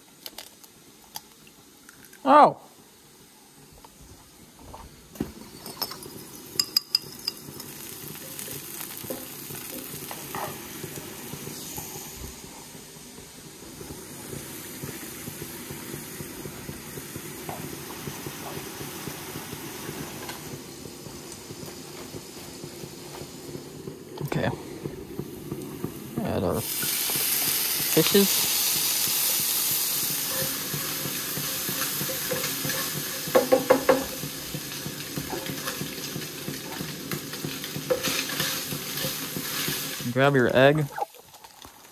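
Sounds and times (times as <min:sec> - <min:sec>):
fries sizzling in oil: 0:00.0 - 0:41.9.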